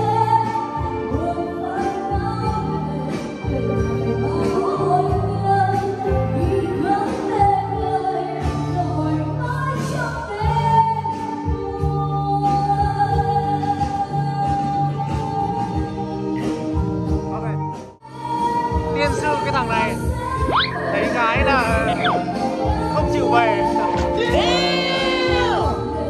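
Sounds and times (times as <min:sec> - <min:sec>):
song with singing over beat: 0:00.0 - 0:26.0.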